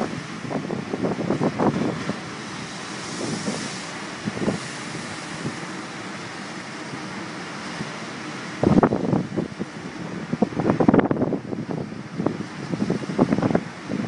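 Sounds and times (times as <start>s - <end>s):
wind buffeting microphone: 0.0s - 5.7s, 7.7s - 14.0s
sea waves breaking: 0.0s - 14.0s.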